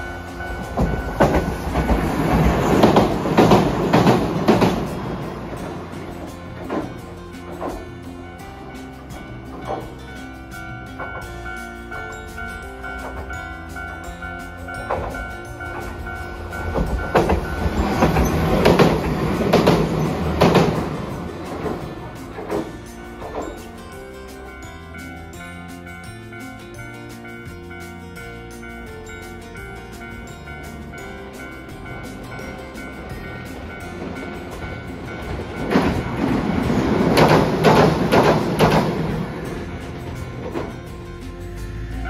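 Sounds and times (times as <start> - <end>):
tram wheels clacking over rail joints: 0.0 - 42.0.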